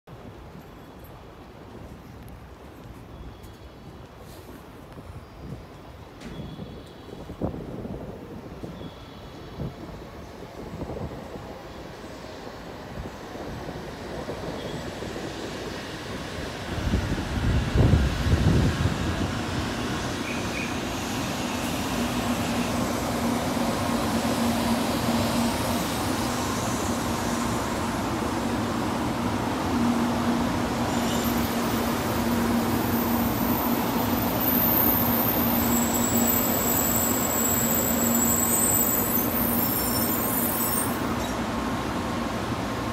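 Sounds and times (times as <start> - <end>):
train rolling rumble: 0.1 - 42.9.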